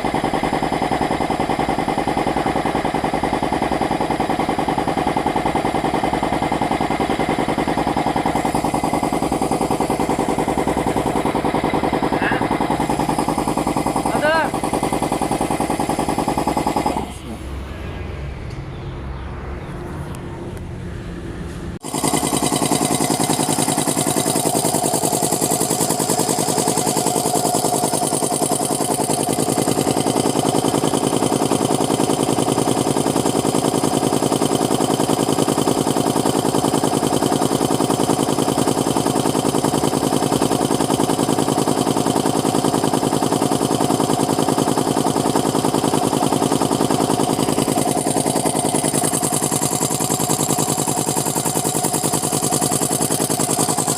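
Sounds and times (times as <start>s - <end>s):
air compressor pump clattering: 0.0s - 17.4s, 21.8s - 53.9s.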